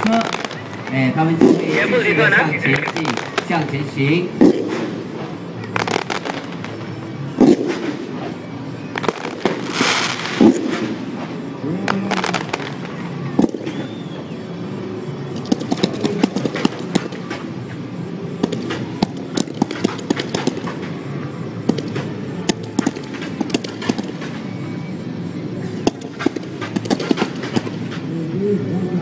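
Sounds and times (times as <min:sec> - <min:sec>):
fireworks popping and cracking: 0:00.0 - 0:14.4, 0:15.3 - 0:24.6, 0:25.7 - 0:28.1
steady background din: 0:00.0 - 0:29.0.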